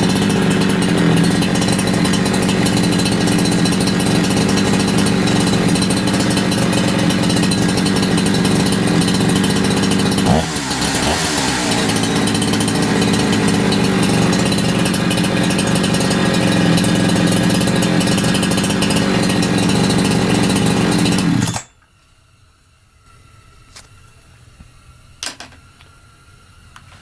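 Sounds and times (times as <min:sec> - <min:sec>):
chainsaw idling: 0:00.0 - 0:21.7.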